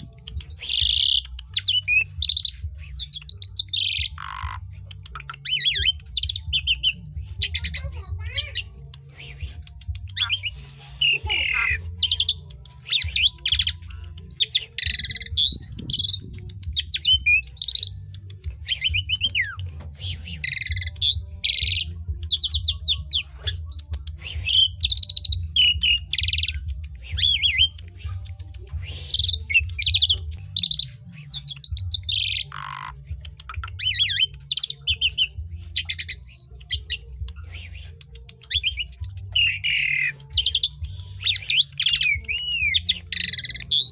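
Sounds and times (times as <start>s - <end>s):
starling singing: 0.0s - 43.9s.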